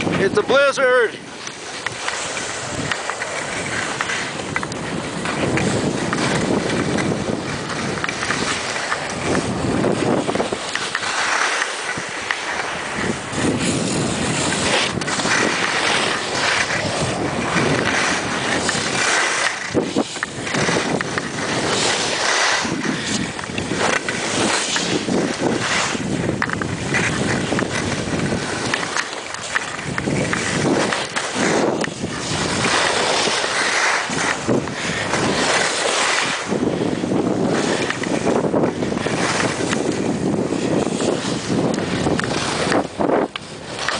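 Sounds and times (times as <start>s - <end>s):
skis sliding over snow: 0.0s - 43.9s
wind buffeting microphone: 0.0s - 43.9s.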